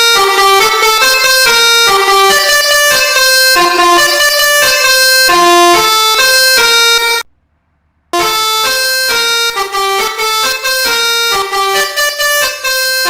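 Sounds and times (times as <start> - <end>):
multi-tone bus horn tune: 0.0 - 7.3, 8.2 - 13.0.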